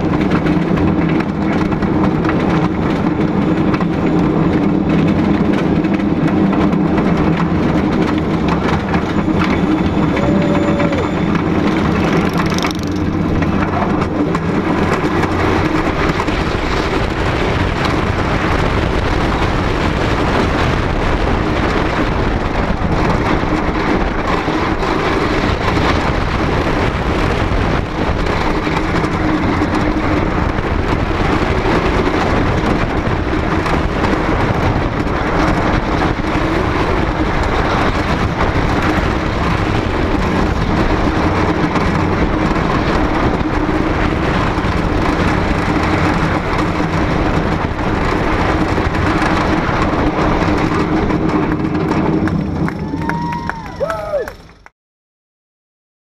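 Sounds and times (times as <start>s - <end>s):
wooden roller coaster rumbling: 0.0s - 54.7s.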